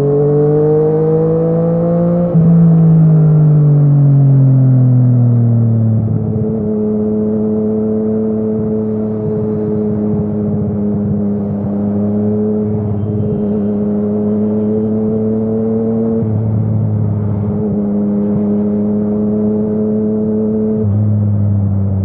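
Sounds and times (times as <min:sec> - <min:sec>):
motorcycle engine while riding: 0:00.0 - 0:22.0.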